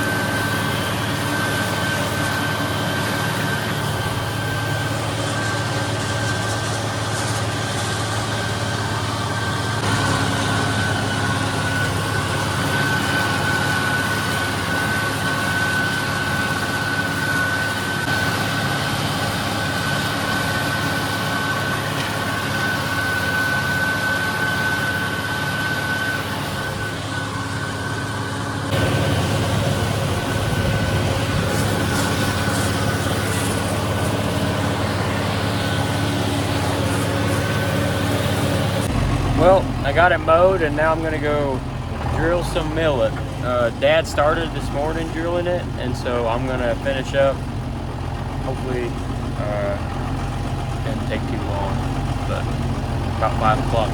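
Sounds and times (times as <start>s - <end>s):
high whine: 0.0s - 53.9s
tractor diesel engine: 0.0s - 53.9s.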